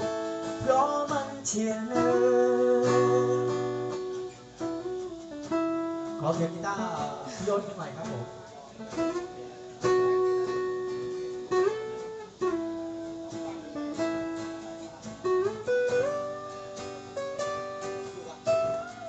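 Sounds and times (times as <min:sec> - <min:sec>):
guitar solo: 0:00.0 - 0:19.0.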